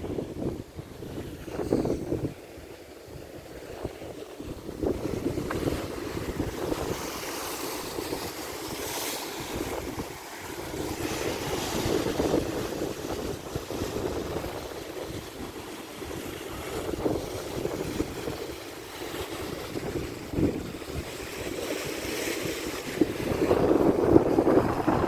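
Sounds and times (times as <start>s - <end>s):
waves breaking on rocks: 0.0s - 25.0s
wind buffeting microphone: 0.0s - 25.0s.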